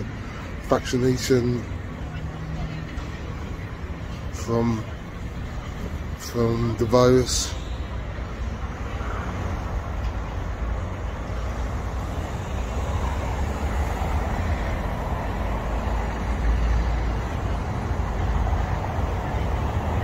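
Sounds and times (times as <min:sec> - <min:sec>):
city street noise: 0:00.0 - 0:20.0.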